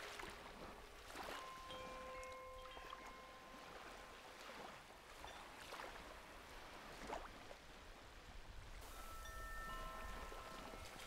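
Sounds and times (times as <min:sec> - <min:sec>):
small waves lapping on sand: 0:00.0 - 0:11.0
soft water splashes: 0:00.0 - 0:11.0.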